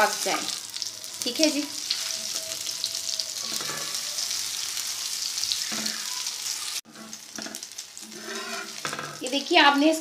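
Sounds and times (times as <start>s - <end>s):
ghee sizzling and crackling: 0.0s - 10.0s.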